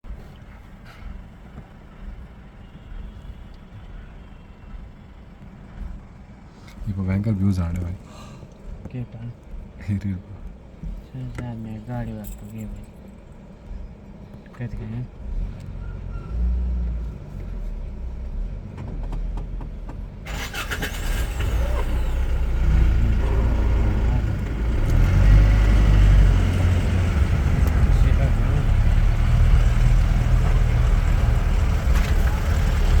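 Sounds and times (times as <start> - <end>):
vehicle road and engine rumble: 0.0 - 33.0.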